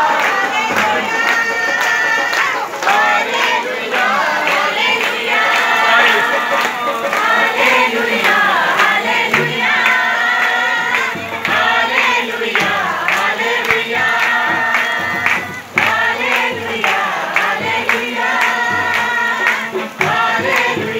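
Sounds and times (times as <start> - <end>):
congregation singing worship song: 0.0 - 20.9
steady beat: 0.0 - 20.9.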